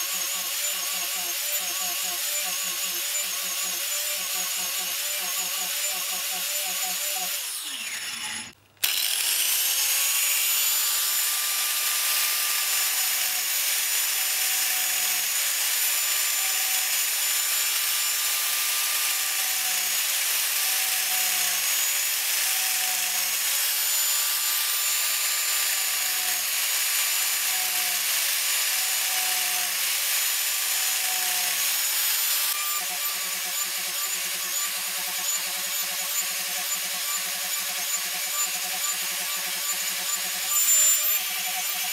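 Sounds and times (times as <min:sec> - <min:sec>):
angle grinder whining: 0:00.0 - 0:41.9.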